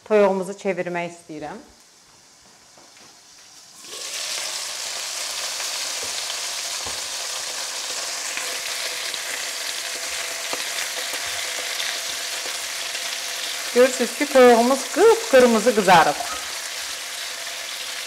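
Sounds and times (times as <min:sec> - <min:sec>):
chicken sizzling in oil: 0:03.5 - 0:18.0.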